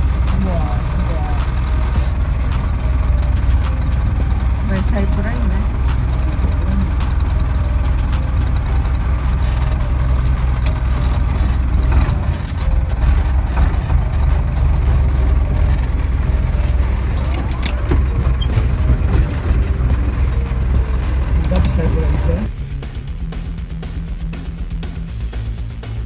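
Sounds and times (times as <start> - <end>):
tractor engine rumbling: 0.0 - 26.0.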